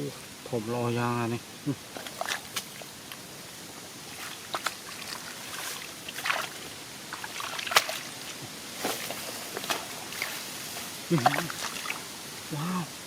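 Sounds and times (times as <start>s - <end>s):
shallow water sloshing and splashing: 1.9s - 12.4s.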